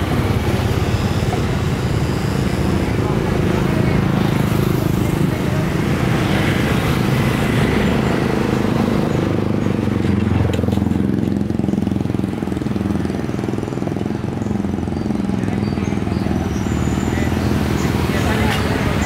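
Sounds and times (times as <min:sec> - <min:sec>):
motorcycles and scooters passing: 0:00.0 - 0:19.0.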